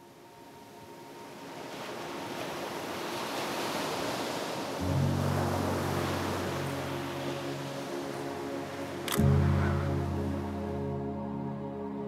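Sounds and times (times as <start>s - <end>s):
ocean surf washing onto beach: 0.0s - 10.9s
low sustained music notes: 0.0s - 12.0s.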